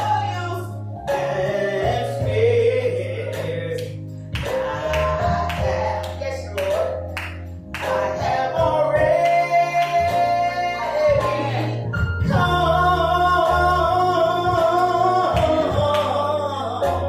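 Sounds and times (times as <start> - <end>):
person singing with vibrato: 0.0 - 7.1, 7.8 - 17.0
guitar and bass accompaniment: 0.0 - 17.0.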